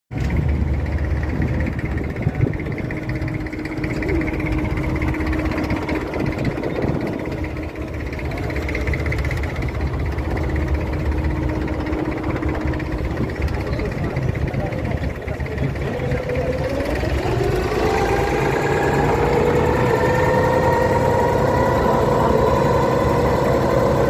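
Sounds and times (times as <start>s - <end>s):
boat diesel engine droning: 0.1s - 24.0s.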